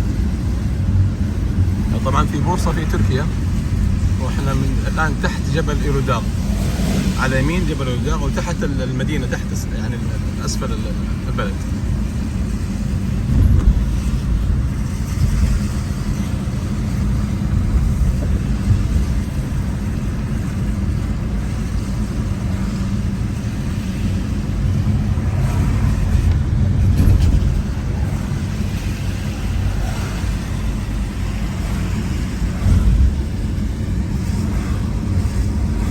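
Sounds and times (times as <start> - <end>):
car engine and tyres rumbling: 0.0 - 35.9.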